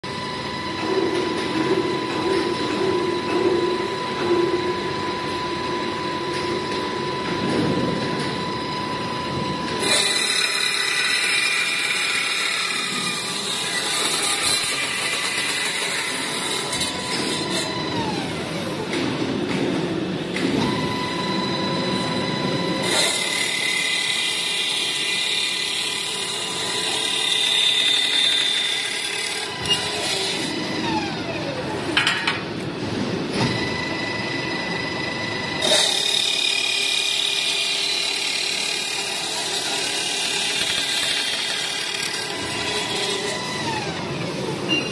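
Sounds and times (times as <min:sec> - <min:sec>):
circular saw cutting steel: 0:00.0 - 0:18.9, 0:20.6 - 0:32.4, 0:33.5 - 0:44.9.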